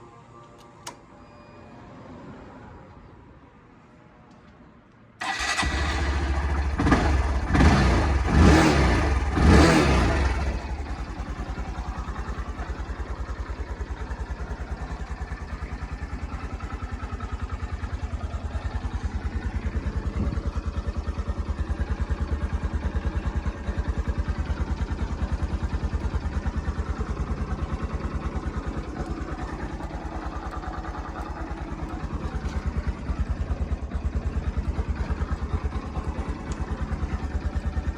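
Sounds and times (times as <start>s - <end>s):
motorcycle engine starting and revving: 5.2s - 37.9s.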